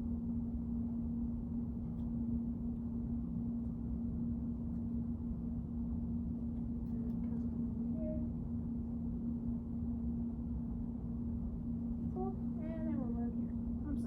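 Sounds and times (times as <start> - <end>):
steady low hum with tone: 0.0 - 14.0.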